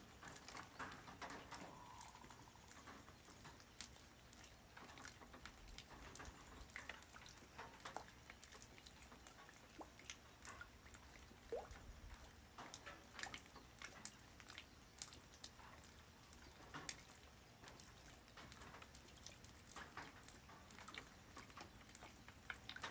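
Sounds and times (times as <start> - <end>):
faint rain hiss: 0.0 - 22.9
raindrops tapping: 0.0 - 22.9.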